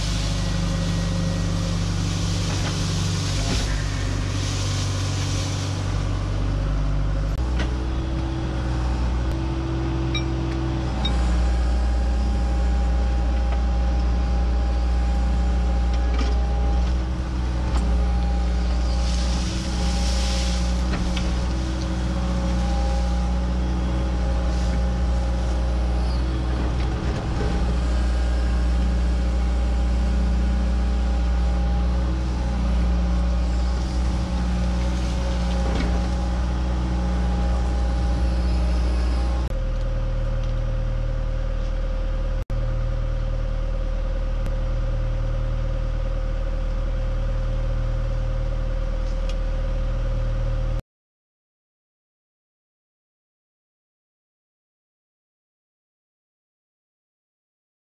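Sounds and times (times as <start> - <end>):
excavator diesel engine running: 0.0 - 50.8.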